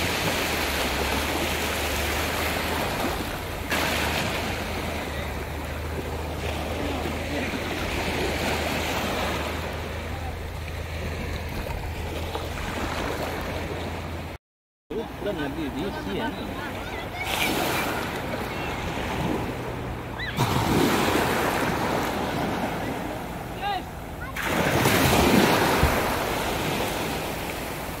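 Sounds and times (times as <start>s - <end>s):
small waves washing onto sand: 0.0s - 14.4s, 15.0s - 28.0s.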